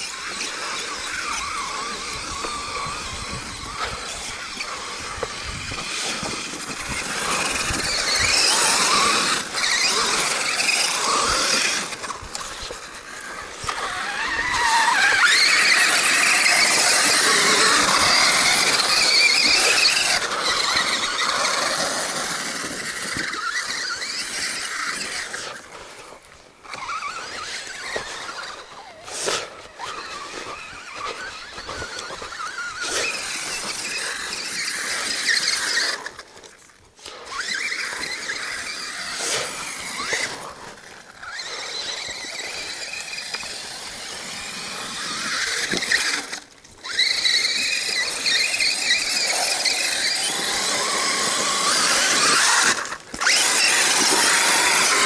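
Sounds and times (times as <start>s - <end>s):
rc truck motor whining: 0.0s - 55.0s.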